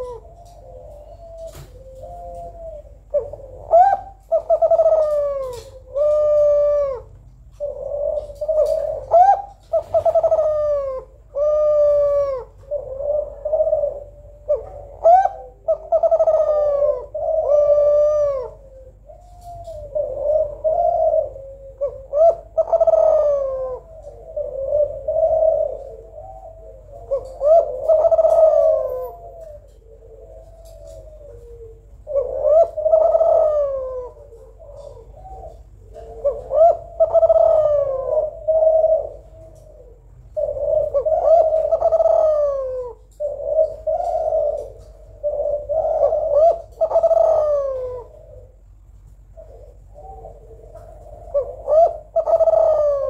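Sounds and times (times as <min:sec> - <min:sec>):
dove cooing: 0:00.0 - 0:53.0.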